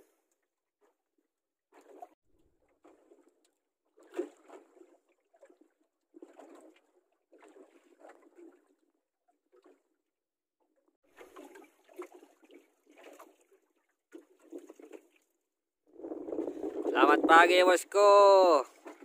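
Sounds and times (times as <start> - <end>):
water lapping against boat hull: 1.7 - 19.0.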